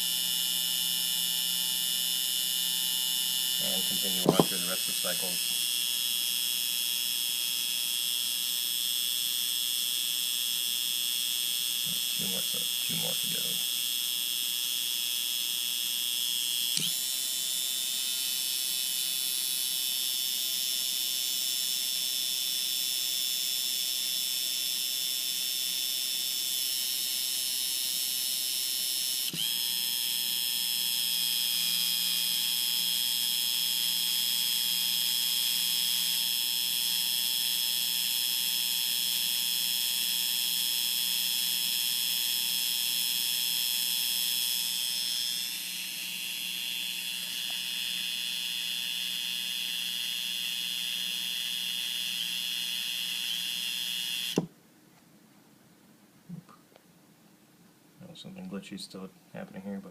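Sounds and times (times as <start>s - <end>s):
small pump motors whining: 0.0s - 54.5s.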